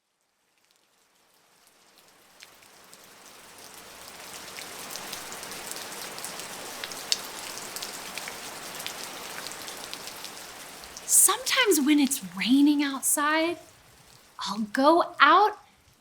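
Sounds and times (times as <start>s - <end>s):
steady rain falling: 0.0s - 16.0s
individual raindrops: 0.5s - 16.0s.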